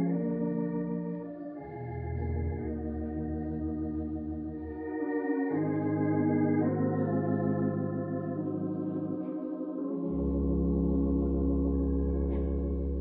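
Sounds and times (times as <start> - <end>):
organ playing a slow hymn: 0.0 - 13.0.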